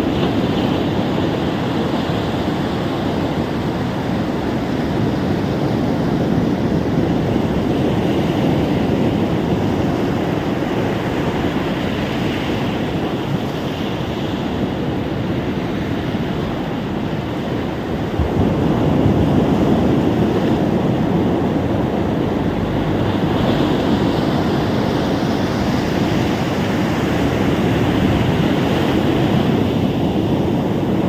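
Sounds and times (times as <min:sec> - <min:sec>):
waves breaking on beach: 0:00.0 - 0:31.0.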